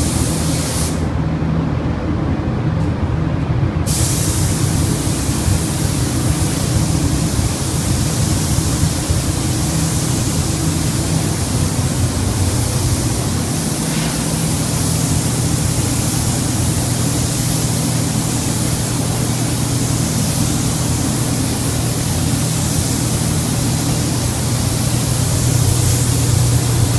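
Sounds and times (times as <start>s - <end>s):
spray gun hissing: 0.0s - 1.1s, 3.9s - 26.9s.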